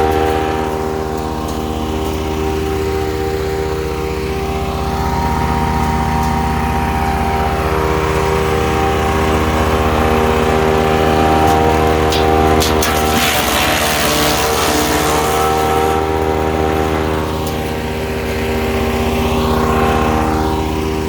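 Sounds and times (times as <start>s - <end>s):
woodchipper engine running: 0.0s - 21.0s.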